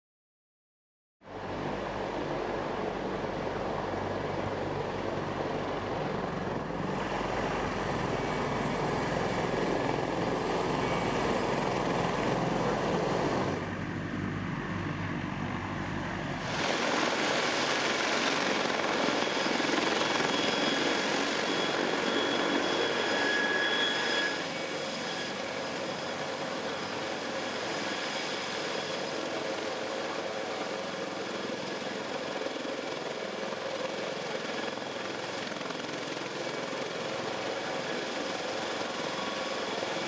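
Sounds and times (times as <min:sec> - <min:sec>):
helicopter engines and rotors: 0:01.3 - 0:40.0
high turbine whine: 0:01.3 - 0:40.0.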